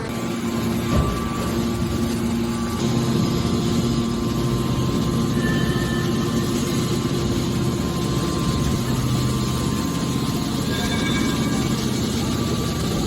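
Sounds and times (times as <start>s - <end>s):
hydraulic baler motor humming: 0.0s - 13.0s.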